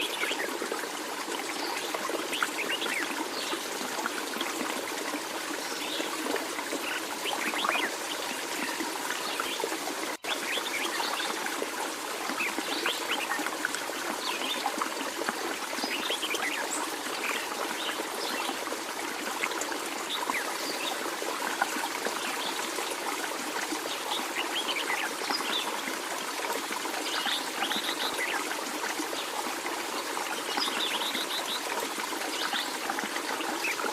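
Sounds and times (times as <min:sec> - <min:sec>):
water trickling: 0:00.0 - 0:33.9.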